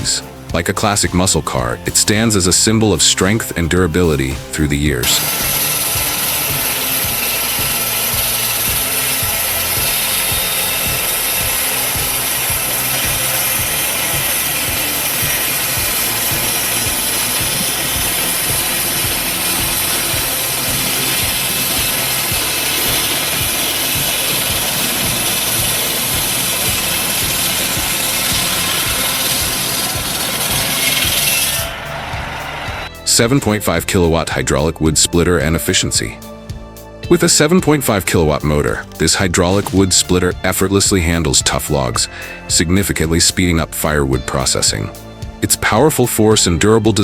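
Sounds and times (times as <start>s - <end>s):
circular saw cutting wood: 0.0s - 36.1s, 37.1s - 47.0s.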